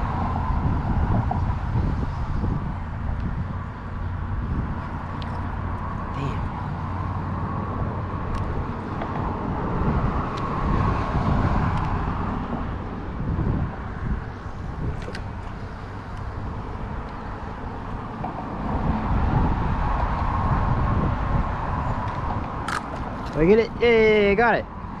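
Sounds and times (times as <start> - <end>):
road traffic: 0.0 - 25.0
wind rumble on microphone: 0.0 - 25.0.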